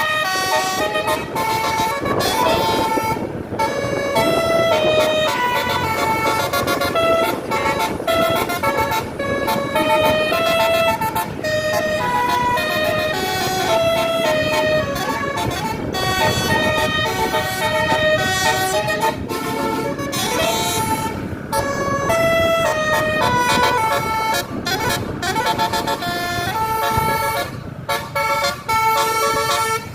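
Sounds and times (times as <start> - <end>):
bus horn playing a tune: 0.0 - 29.9.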